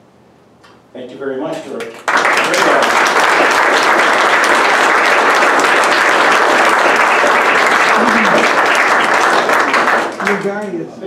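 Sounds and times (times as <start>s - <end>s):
audience applauding: 1.8s - 10.8s.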